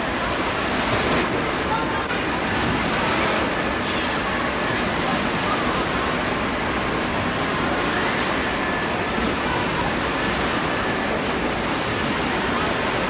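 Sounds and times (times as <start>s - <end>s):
waves breaking and churning: 0.0s - 13.0s.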